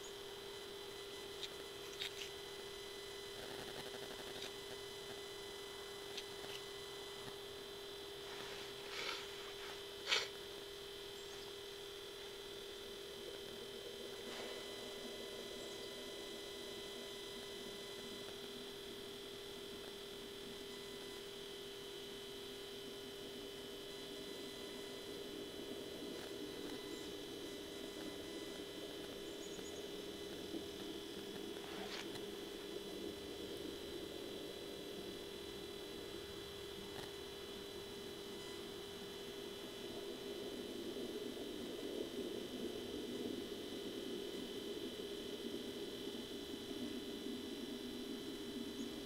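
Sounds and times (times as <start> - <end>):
steady electronic hum: 0.0 - 49.0.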